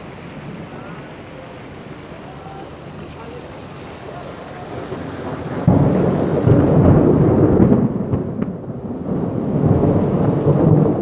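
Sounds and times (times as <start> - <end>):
heavy rain hiss: 0.0 - 11.0
thunder rumble: 0.0 - 11.0.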